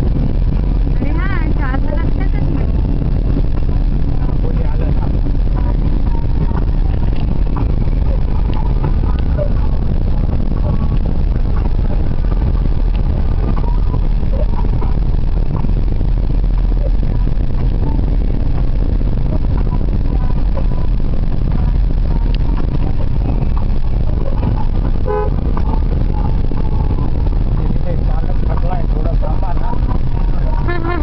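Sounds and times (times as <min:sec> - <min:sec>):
engine and tyres rumbling: 0:00.0 - 0:31.0.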